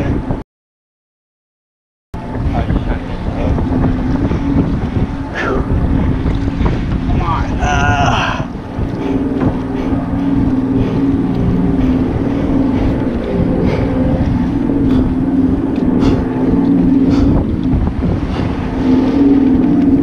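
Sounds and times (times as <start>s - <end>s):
wind buffeting microphone: 0.0s - 0.4s, 2.2s - 20.0s
boat engine humming: 2.2s - 20.0s.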